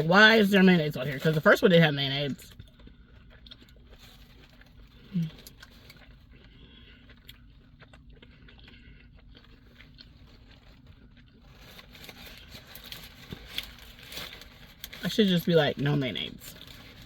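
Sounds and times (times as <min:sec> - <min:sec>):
chewing and crunching food: 0:00.0 - 0:17.0
food wrapper crackling: 0:00.0 - 0:17.0.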